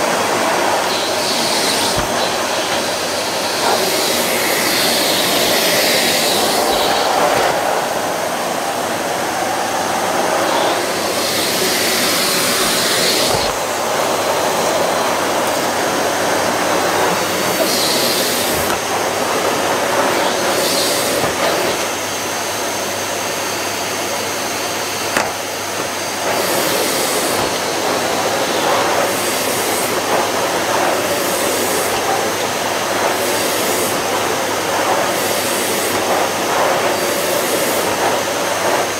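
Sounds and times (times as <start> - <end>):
vacuum cleaners running: 0.0 - 38.9.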